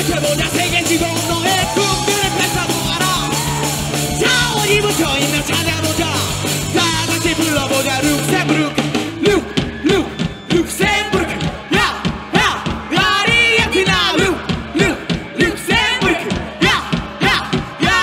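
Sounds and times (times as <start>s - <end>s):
punchy drum beat: 0.0s - 18.0s
rock band playing: 0.0s - 18.0s.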